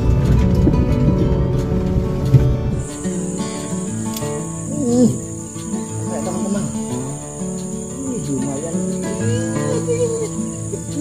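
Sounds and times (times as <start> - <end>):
background music gliding melody: 0.0 - 11.0
insects droning: 0.0 - 11.0.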